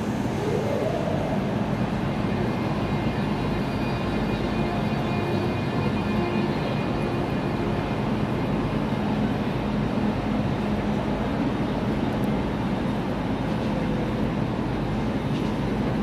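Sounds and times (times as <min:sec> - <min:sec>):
electric hum of a stationary train: 0:00.0 - 0:16.0
station hall noise: 0:00.0 - 0:16.0.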